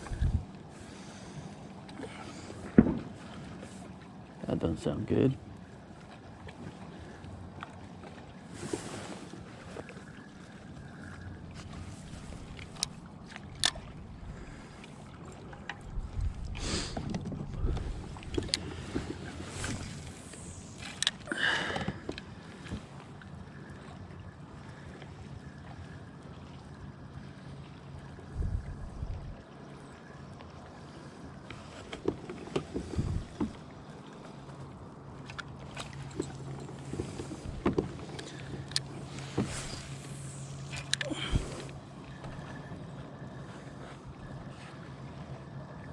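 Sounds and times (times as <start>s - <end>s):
steady low hum: 0.0s - 45.9s
water: 0.0s - 45.9s
wind: 0.0s - 45.9s.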